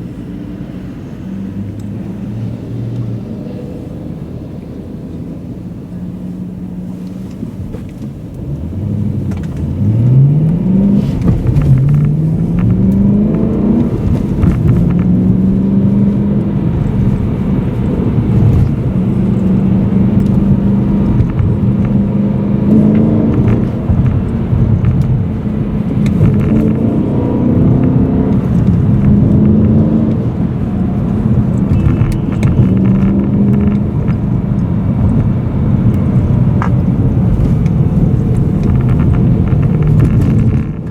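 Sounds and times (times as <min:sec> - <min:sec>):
car engine revving in cabin: 0:00.0 - 0:40.9.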